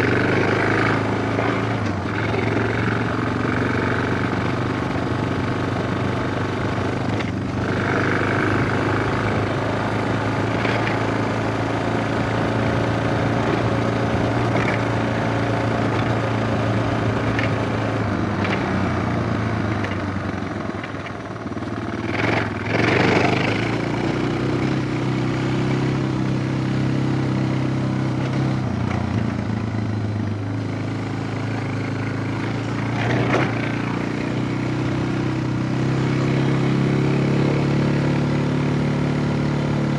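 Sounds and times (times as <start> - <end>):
engine revving: 0.0 - 21.0, 21.9 - 39.9
motorcycle engine running: 0.0 - 39.9.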